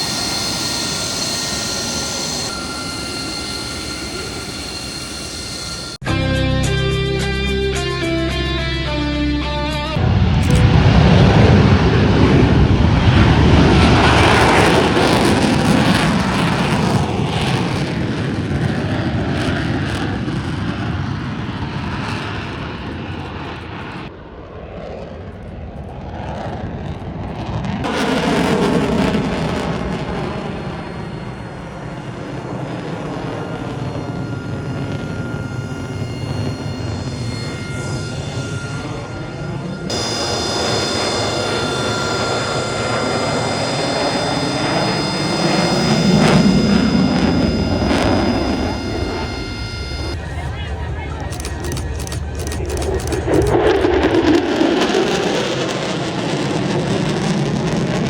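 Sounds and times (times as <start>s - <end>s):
military airplane flying past: 10.0s - 58.0s.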